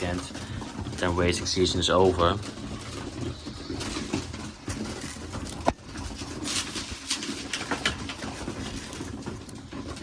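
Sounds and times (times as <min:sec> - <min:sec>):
beaks tapping on grain: 0:00.0 - 0:10.0
pigeons cooing: 0:00.0 - 0:10.0.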